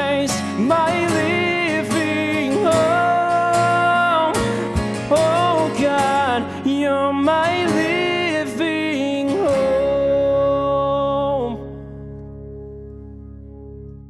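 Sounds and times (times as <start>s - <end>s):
man singing worship song: 0.0s - 11.9s
low held accompaniment chord: 0.0s - 14.0s.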